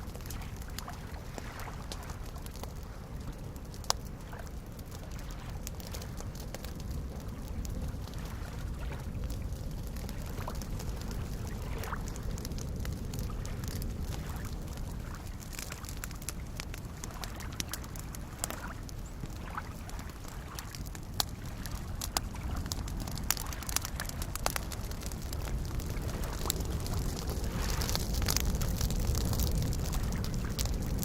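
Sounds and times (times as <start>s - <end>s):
campfire crackling and popping: 0.0s - 31.0s
small waves lapping at shore: 0.2s - 30.7s.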